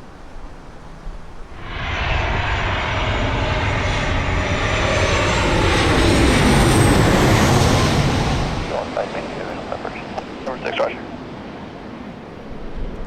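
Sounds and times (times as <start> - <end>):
airplane engines rumbling and whining: 1.3 - 13.0.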